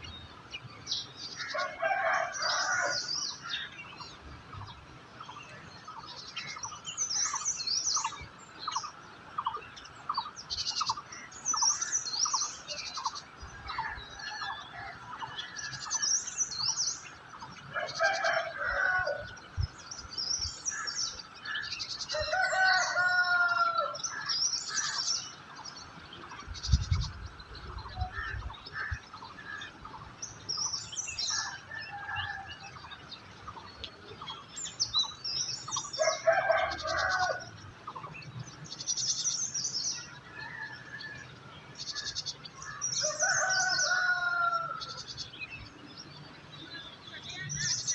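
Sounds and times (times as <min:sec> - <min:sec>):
birds chirping and singing: 0:00.0 - 0:47.9
longer low bird calls: 0:00.0 - 0:47.9.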